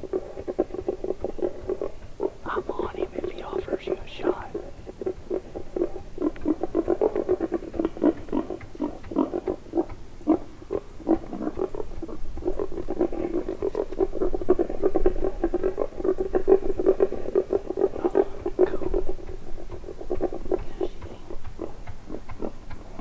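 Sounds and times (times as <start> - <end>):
wild boar grunting: 0.0 - 23.0.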